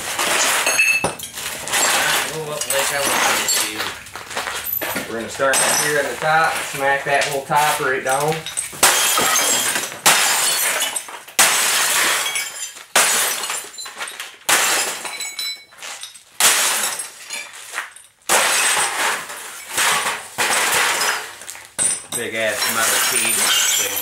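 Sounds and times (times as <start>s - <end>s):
glass breaking: 0.0s - 24.0s
pieces clattering and tinkling: 0.0s - 24.0s.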